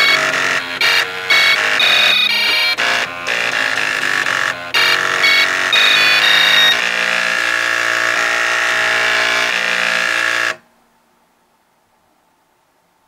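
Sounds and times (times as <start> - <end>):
floppy drive motors buzzing tones: 0.0 - 10.6.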